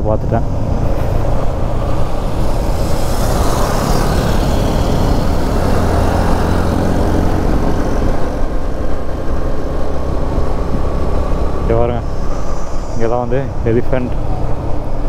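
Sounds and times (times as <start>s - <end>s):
motorcycle engine droning: 0.0s - 15.0s
wind noise rushing: 0.0s - 15.0s.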